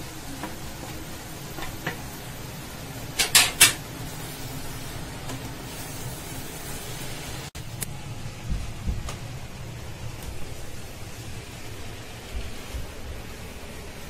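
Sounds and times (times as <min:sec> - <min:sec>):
frying hiss: 0:00.0 - 0:14.0.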